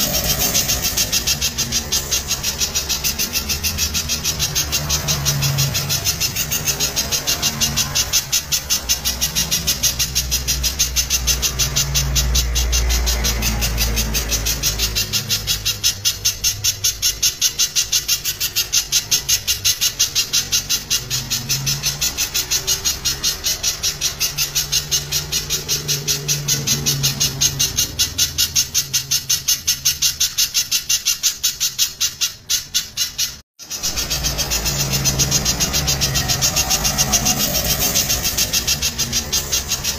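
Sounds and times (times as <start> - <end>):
bird calling sharp repeated notes: 0.0 - 39.9.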